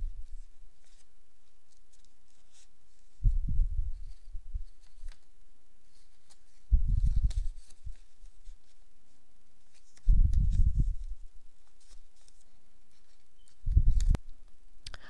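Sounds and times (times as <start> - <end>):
paper rustling and crinkling: 0.0 - 14.2.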